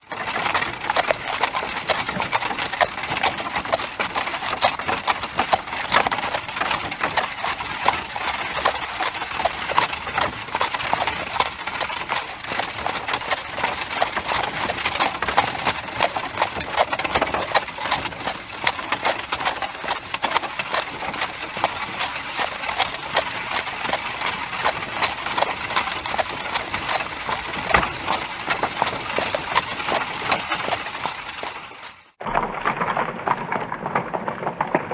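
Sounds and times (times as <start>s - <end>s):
horse hoofbeats: 0.0s - 32.6s.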